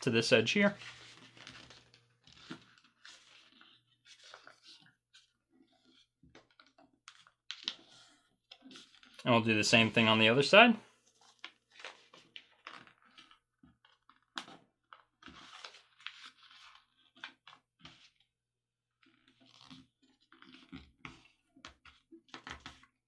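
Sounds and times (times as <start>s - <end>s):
paper crinkling and creasing: 0.4s - 10.4s, 11.1s - 18.1s, 19.0s - 23.0s.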